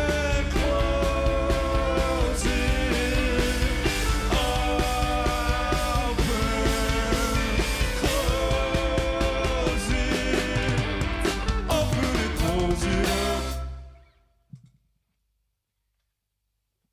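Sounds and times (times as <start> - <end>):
steady drum beat: 0.0 - 13.7
rock band playing live: 0.0 - 14.0
sustained guitar chords: 0.0 - 14.1.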